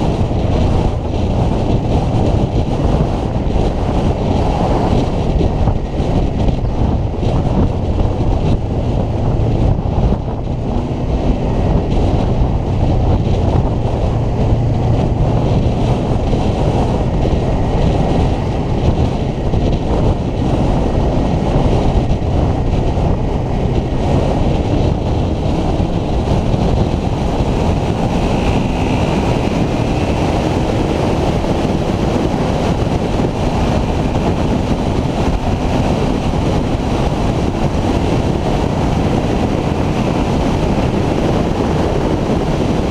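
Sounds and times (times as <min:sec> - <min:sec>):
motorcycle engine running: 0:00.0 - 0:42.9
wind noise on microphone: 0:00.0 - 0:42.9.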